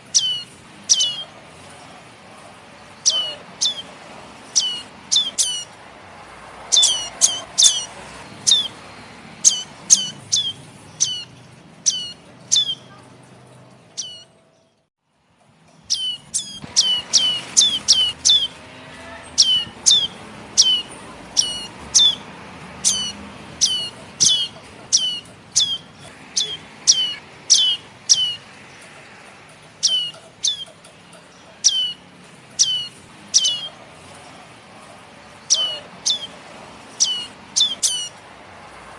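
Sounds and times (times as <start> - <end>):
bird chicks calling: 0.0 - 1.8, 2.8 - 5.8, 6.6 - 13.0, 13.9 - 14.4, 15.8 - 34.2, 35.3 - 38.2.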